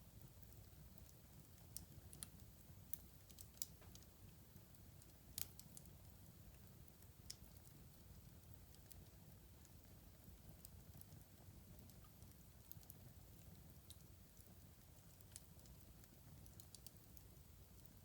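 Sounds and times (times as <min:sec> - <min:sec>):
fire crackling and popping: 0:00.1 - 0:18.0.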